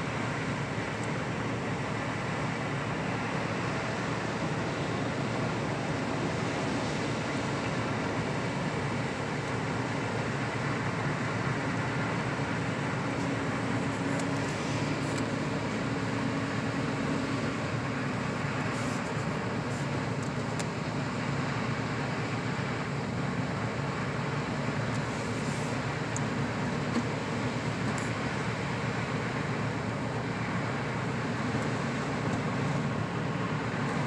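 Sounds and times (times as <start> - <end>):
low engine hum: 0.0 - 34.0
tyres on snowy road: 0.0 - 34.0.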